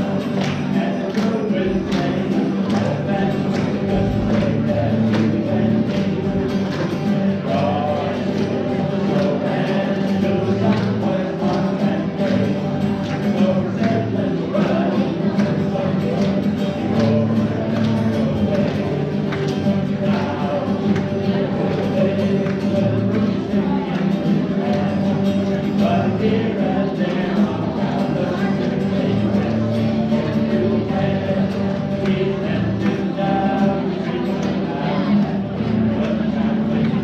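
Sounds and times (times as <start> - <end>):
group singing with instruments: 0.0 - 37.0.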